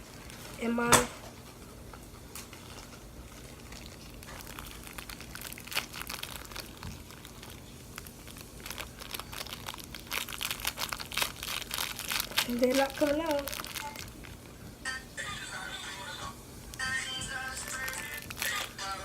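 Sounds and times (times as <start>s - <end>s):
plastic packaging crinkling: 1.6s - 14.6s, 16.6s - 19.0s.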